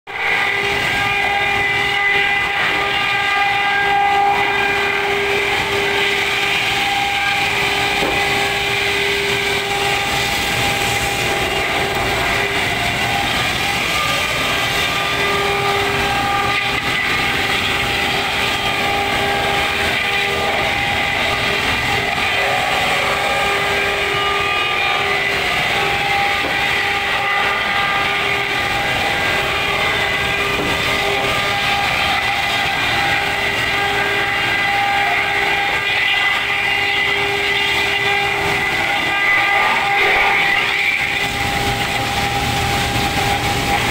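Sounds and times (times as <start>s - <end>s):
industrial machine din with whining tones: 0.1s - 43.9s.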